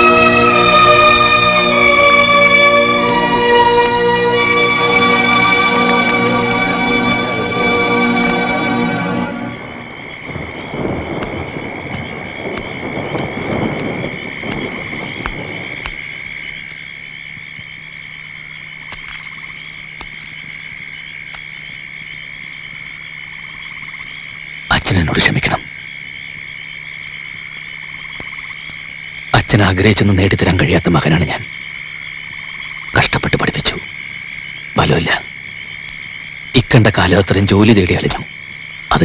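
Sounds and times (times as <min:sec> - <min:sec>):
frogs croaking: 0:00.0 - 0:39.0
insects chirring: 0:00.0 - 0:39.0.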